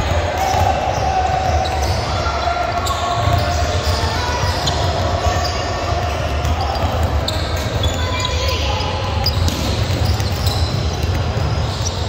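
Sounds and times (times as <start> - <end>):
basketball bouncing on court: 0.0 - 12.0
shoe squeaks: 1.0 - 12.0.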